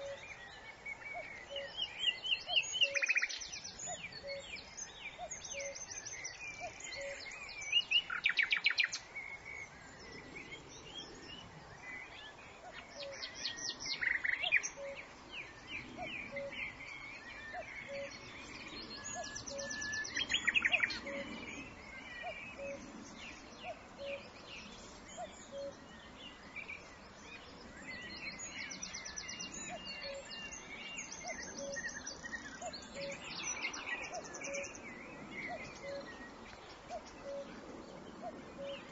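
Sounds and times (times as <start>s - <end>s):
songbirds singing and calling: 0.0s - 38.9s.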